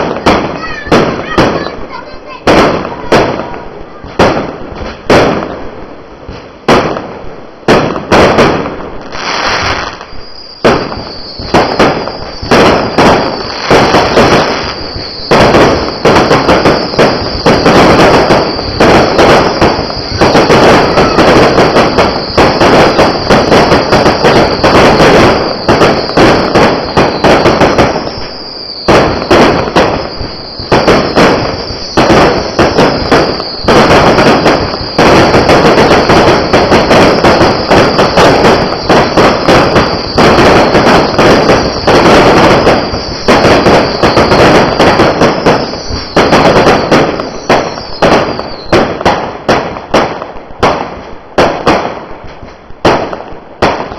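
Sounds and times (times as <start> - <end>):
fireworks bangs and crackle: 0.0 - 53.9.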